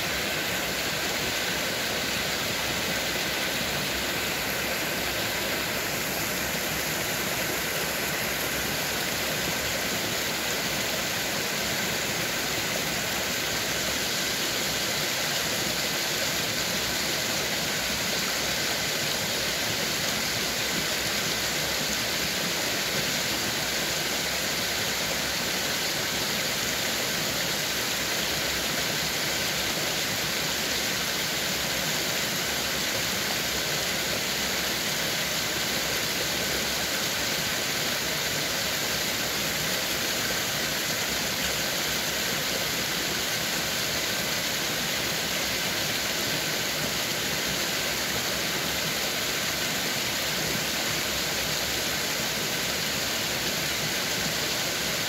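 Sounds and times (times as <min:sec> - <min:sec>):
waterfall splashing over rocks: 0:00.0 - 0:55.0.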